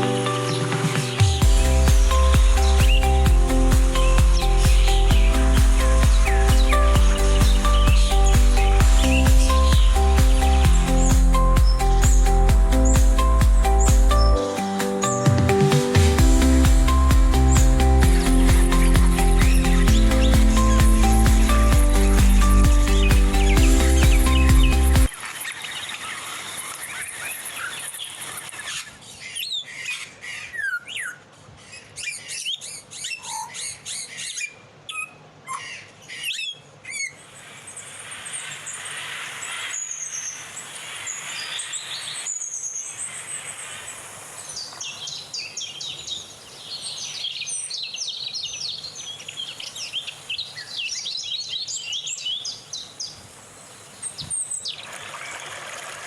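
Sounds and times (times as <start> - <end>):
wild birds chirping and whistling: 0.0 - 14.4, 15.0 - 55.8.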